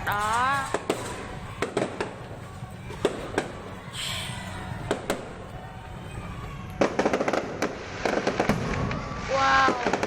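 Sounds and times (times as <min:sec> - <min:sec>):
firework bangs: 0:00.0 - 0:05.6, 0:06.8 - 0:10.0
fireworks cracking and popping: 0:00.0 - 0:05.6, 0:06.6 - 0:10.0.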